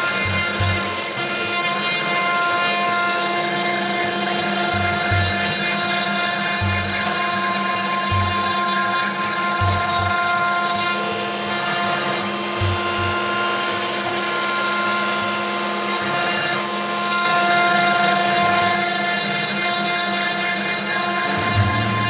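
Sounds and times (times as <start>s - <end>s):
cnc router spindle whine: 0.0s - 22.0s.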